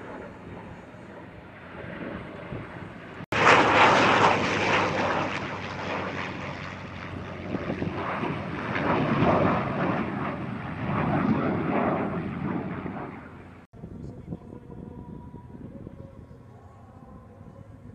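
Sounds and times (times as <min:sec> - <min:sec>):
propeller engine: 0:00.0 - 0:14.9
jet engine noise: 0:00.0 - 0:17.9.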